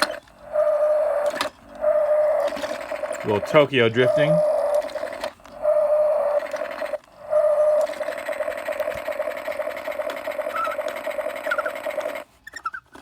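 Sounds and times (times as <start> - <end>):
toy engine rumble sound effect: 0.0 - 13.0
toy steering wheel squeaking: 0.0 - 13.0.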